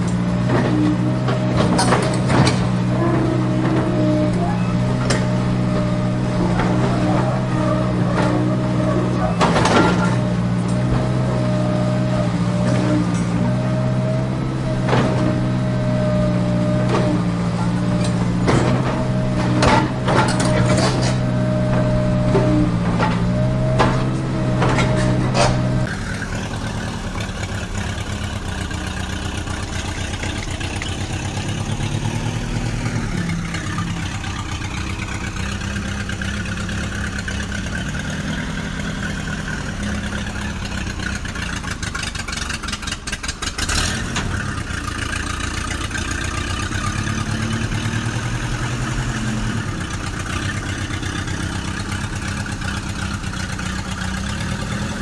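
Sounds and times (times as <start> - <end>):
engine idling and revving: 0.0 - 55.0.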